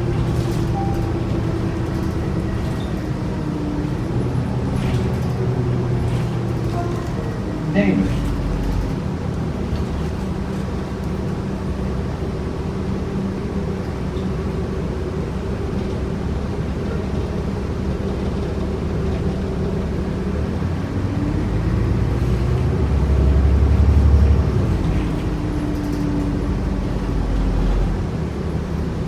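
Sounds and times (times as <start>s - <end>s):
bus engine droning: 0.0s - 29.0s.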